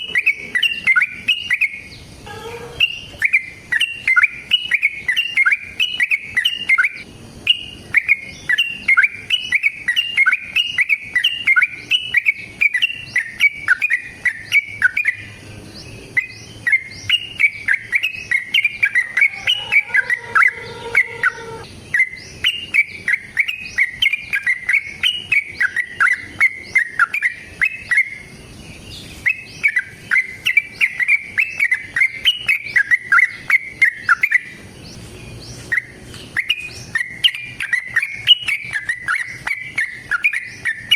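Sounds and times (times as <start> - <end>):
bulbul singing fast chirps: 0.0 - 40.9.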